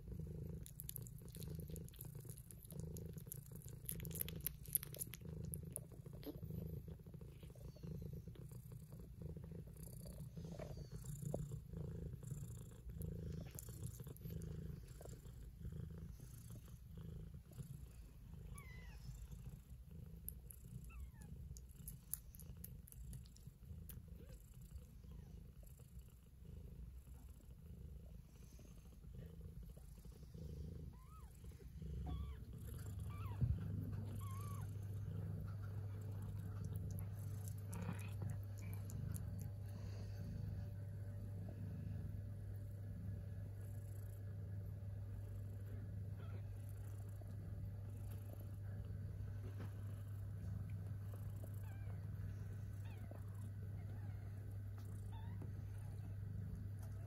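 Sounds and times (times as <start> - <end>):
cat purring: 0.0 - 57.0
steady low hum: 0.0 - 57.0.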